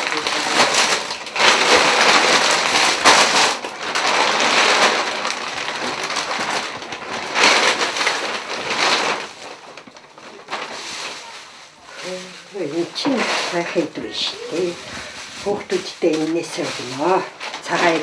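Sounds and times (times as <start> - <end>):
plastic bags rustling and crinkling: 0.0 - 18.0.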